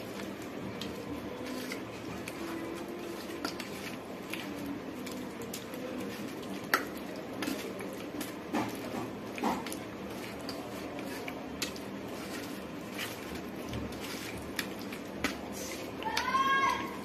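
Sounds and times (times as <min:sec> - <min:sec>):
meat squishing in marinade: 0:00.0 - 0:17.0.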